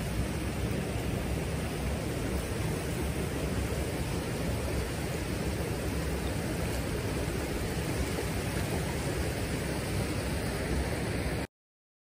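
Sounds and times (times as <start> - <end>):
stream rushing over rocks: 0.0 - 11.5.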